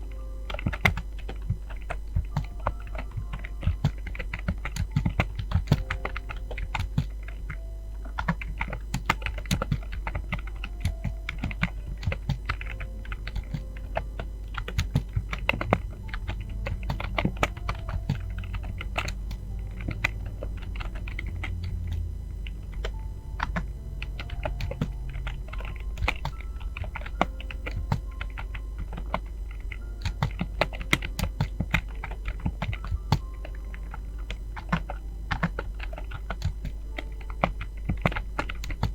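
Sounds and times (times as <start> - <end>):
fast typing on keyboard: 0.0 - 38.9
steady low hum: 0.0 - 38.9.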